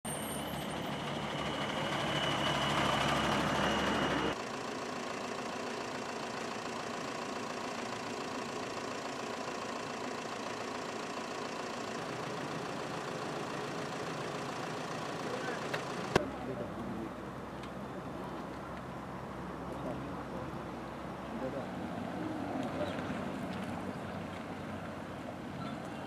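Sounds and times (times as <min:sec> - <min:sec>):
fire engine running: 0:00.1 - 0:26.0.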